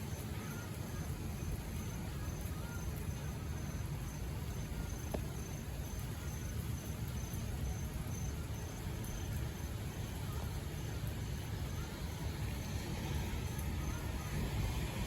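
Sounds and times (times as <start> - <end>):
cricket chirping: 0.1 - 15.0.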